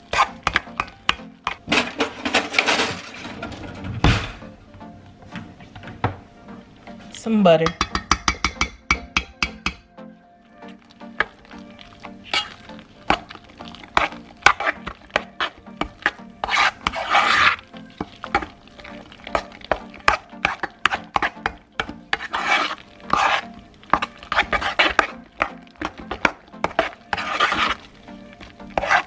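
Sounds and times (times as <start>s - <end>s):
spoon mashing potatoes in pot: 0.0s - 3.8s, 4.4s - 9.9s, 10.6s - 29.0s
spoon scraping pot: 0.0s - 4.5s, 5.3s - 9.9s, 10.6s - 29.0s
faint background music: 0.0s - 29.0s.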